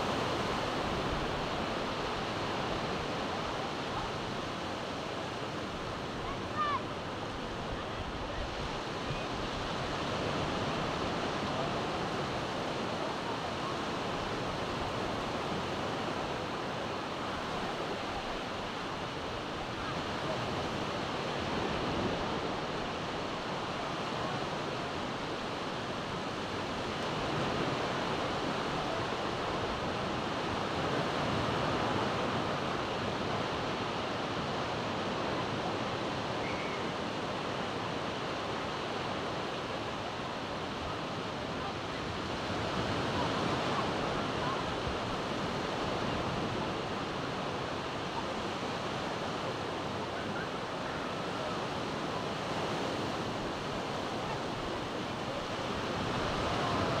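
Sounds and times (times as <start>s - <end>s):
surf waves breaking: 0.0s - 57.0s
wind: 0.0s - 57.0s.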